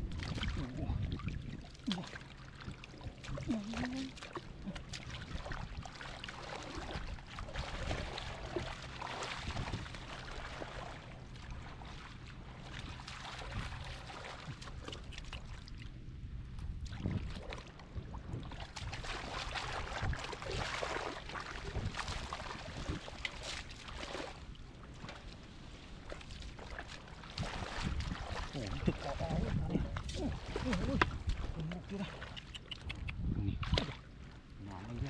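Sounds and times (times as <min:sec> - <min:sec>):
muddy water sloshing: 0:00.0 - 0:35.0.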